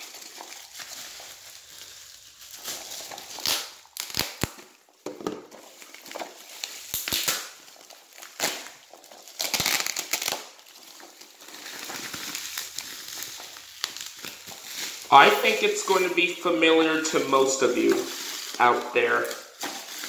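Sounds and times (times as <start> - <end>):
bubble wrap crinkling: 0.0 - 20.0
bubble wrap snaps: 0.0 - 20.0.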